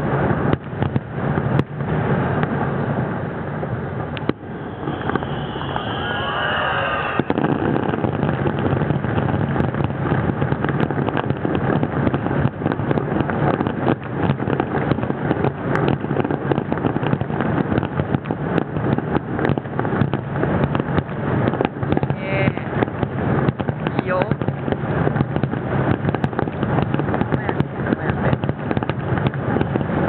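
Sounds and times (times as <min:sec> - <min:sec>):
fireworks bursting with crackling: 0:00.0 - 0:30.0.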